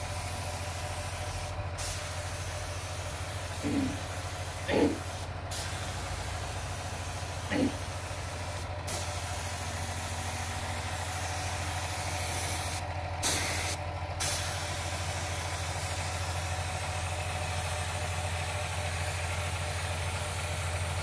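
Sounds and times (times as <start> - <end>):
air compressor humming: 0.0 - 21.0
air spray gun hissing: 0.2 - 20.9.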